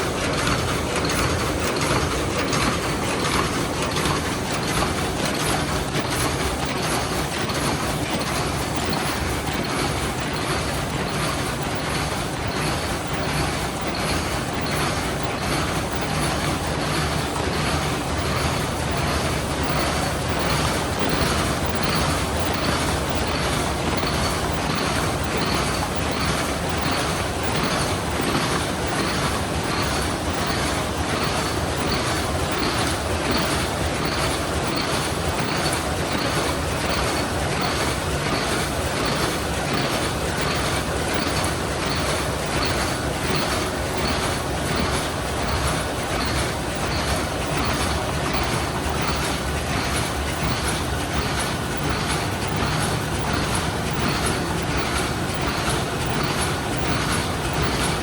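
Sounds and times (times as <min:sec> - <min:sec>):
paper cup machine clattering: 0:00.0 - 0:58.0.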